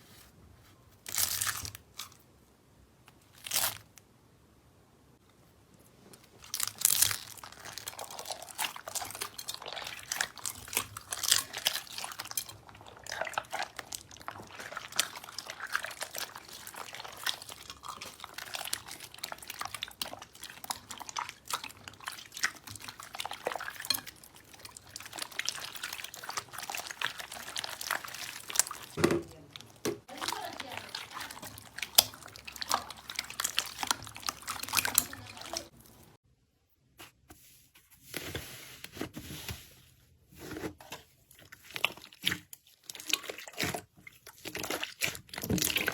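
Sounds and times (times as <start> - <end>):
slime squelching: 1.0 - 2.3, 3.0 - 4.0, 5.6 - 36.2, 40.4 - 45.9.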